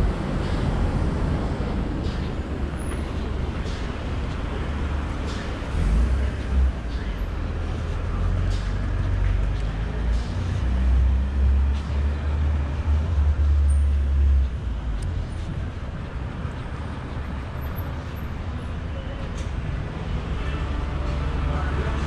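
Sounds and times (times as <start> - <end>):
low rumble of traffic: 0.0 - 22.0.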